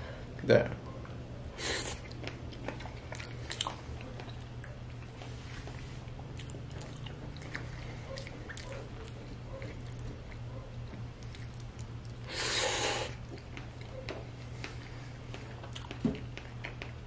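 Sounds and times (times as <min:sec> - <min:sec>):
low steady hum: 0:00.0 - 0:17.0
wet chewing mouth sounds: 0:01.5 - 0:17.0.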